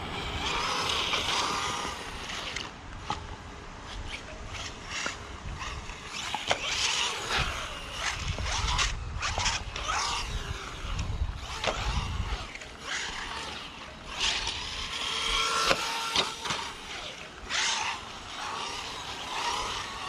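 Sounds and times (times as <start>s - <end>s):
electric motor whining: 0.0s - 20.0s
tires on the ground: 0.0s - 20.0s.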